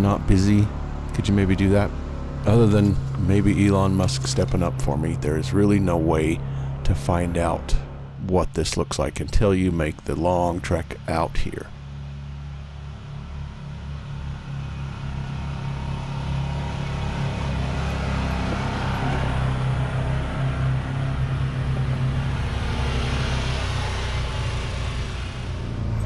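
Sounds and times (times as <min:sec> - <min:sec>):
side-by-side engine running: 0:00.0 - 0:26.0.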